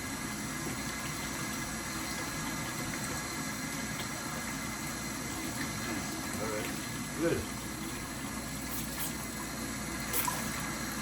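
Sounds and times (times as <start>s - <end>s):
pot cooking on stove: 0.0s - 11.0s.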